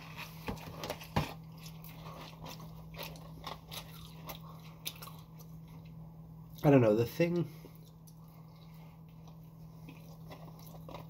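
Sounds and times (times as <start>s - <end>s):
biting and chewing food: 0.0s - 6.8s, 7.6s - 11.0s.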